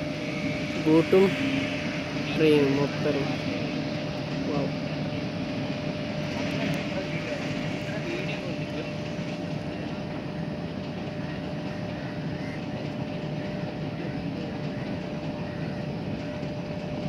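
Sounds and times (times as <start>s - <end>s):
motorboat engine: 0.0s - 17.0s
train rumbling over bridge: 0.0s - 17.0s.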